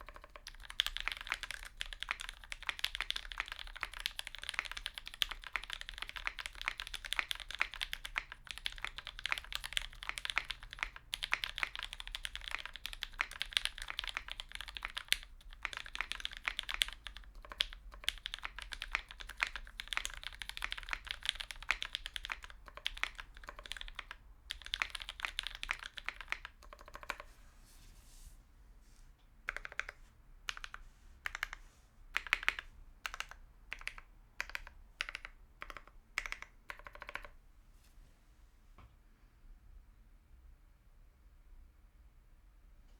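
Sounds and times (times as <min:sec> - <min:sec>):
mechanical keyboard typing: 0:00.0 - 0:27.3, 0:29.5 - 0:37.4.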